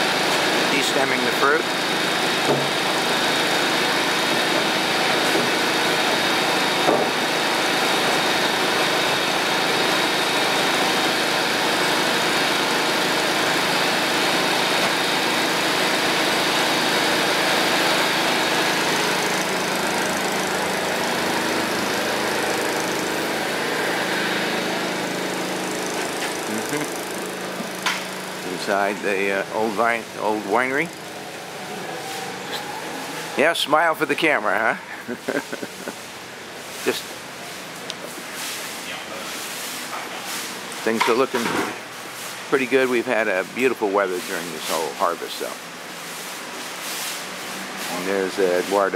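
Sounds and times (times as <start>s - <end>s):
grape crusher machine humming: 0.0s - 48.9s.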